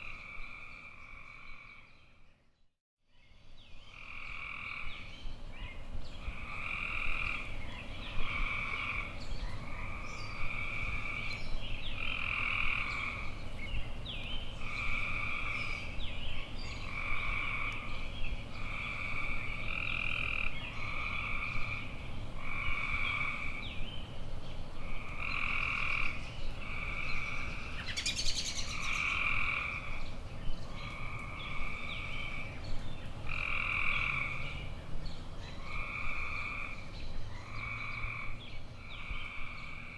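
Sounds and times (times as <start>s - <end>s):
frogs croaking: 0.0s - 2.0s, 3.8s - 5.1s, 6.2s - 13.4s, 14.6s - 16.0s, 16.7s - 23.8s, 24.8s - 30.1s, 30.7s - 34.7s, 35.5s - 39.9s.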